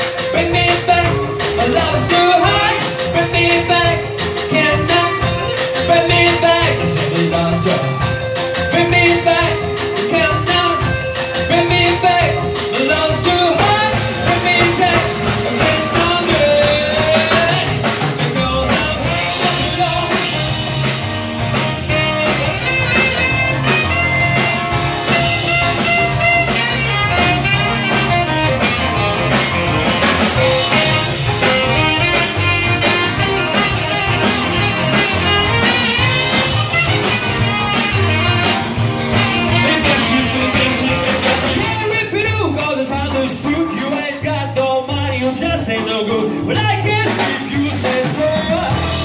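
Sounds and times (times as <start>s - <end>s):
drums: 0.0s - 49.0s
electric guitar: 0.0s - 49.0s
keyboard: 0.0s - 49.0s.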